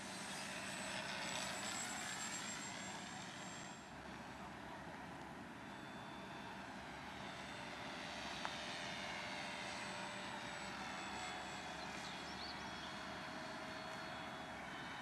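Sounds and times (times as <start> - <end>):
model aeroplane engine droning: 0.0 - 15.0.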